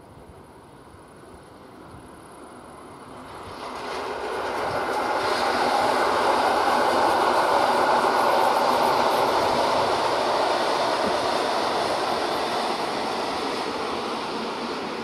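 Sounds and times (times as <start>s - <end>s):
train wheels rumbling on rails: 1.3s - 15.0s.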